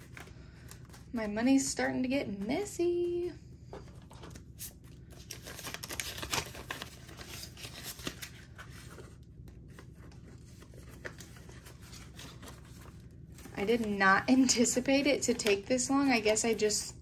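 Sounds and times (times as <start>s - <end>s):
banknotes rustling: 0.0s - 17.0s.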